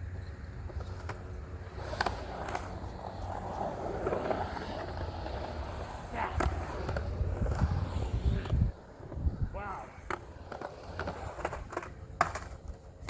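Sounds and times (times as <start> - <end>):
skateboard wheels rolling on concrete: 0.0 - 13.0
skateboard clacks: 0.4 - 13.0.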